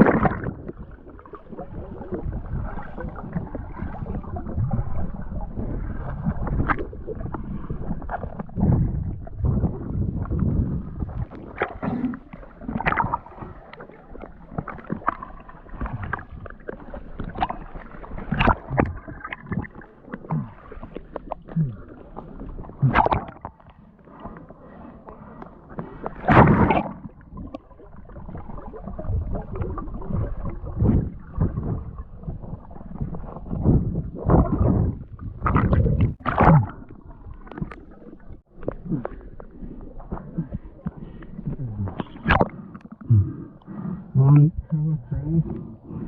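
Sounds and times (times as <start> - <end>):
muffled water sloshing and splashing: 0.0 - 46.0.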